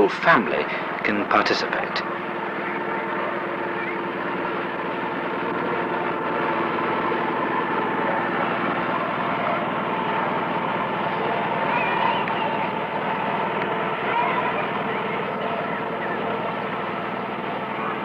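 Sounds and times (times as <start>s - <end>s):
boat engine pulsing: 0.0s - 18.0s.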